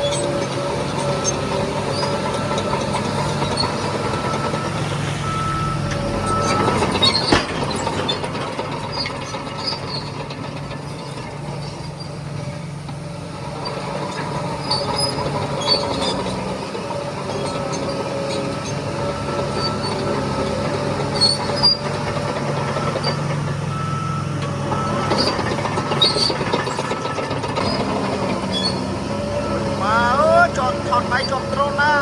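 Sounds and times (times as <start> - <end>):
heavy machinery diesel engine: 0.0 - 32.0.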